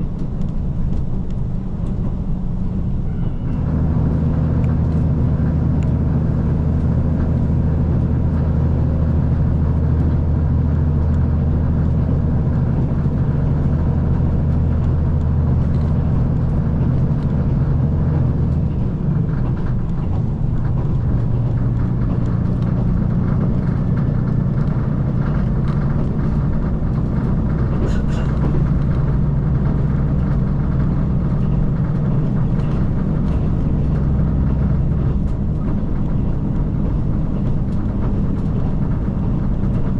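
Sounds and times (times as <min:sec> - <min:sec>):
diesel railcar engine: 0:00.0 - 0:39.9
rail running noise: 0:00.0 - 0:39.9.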